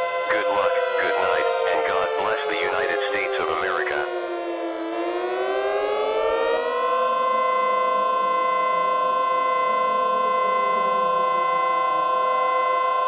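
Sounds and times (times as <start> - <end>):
civil defense siren: 0.0 - 13.0.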